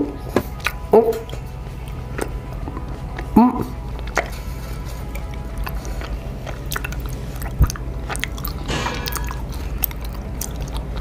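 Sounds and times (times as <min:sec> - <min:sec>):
chewing with wet clicks and smacks: 0:00.4 - 0:11.0.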